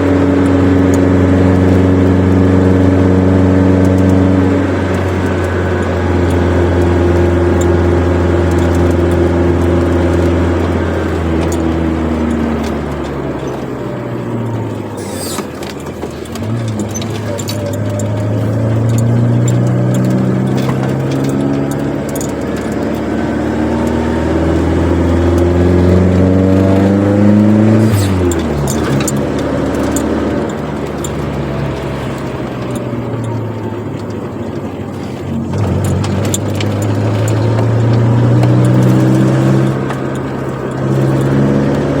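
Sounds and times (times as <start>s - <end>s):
car engine with sport exhaust: 0.0s - 42.0s.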